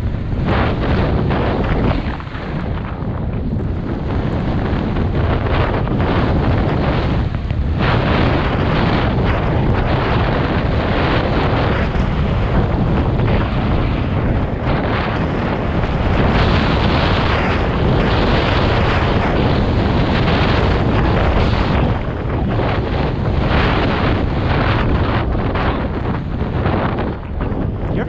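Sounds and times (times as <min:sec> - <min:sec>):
snowboard rushing through powder: 0:00.0 - 0:27.4
wind buffeting microphone: 0:00.0 - 0:28.0.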